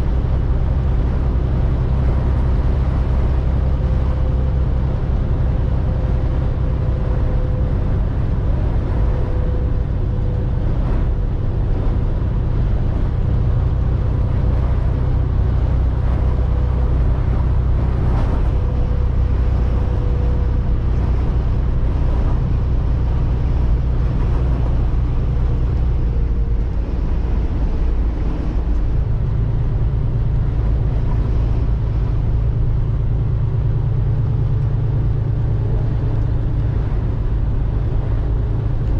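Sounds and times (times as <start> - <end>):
road and wind noise: 0.0 - 38.9
truck diesel engine running: 0.0 - 38.9.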